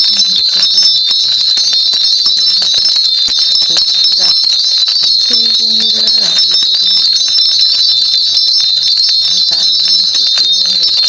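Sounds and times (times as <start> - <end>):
bells jingling: 0.0 - 11.0.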